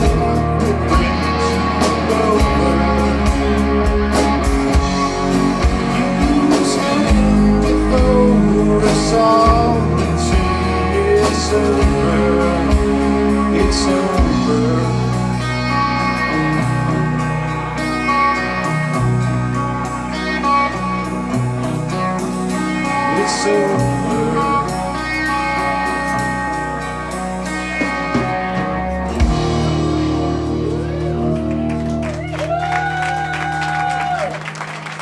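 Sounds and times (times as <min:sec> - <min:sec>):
lead guitar bending notes: 0:00.0 - 0:33.3
rock band playing: 0:00.0 - 0:35.0.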